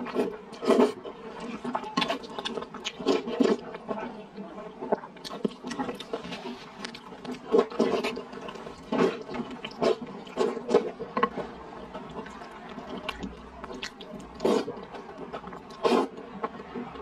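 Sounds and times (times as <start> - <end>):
wet slurping and chewing: 0.0 - 17.0.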